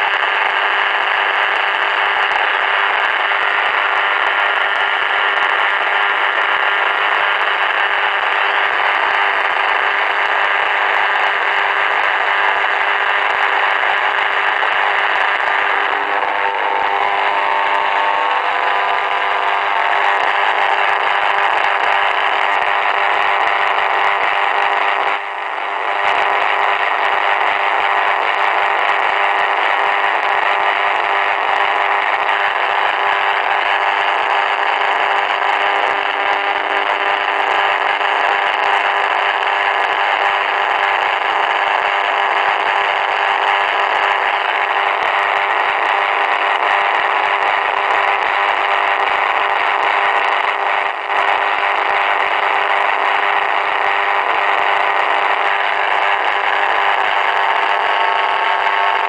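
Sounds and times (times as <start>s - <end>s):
radio buzzing interference: 0.0s - 59.0s.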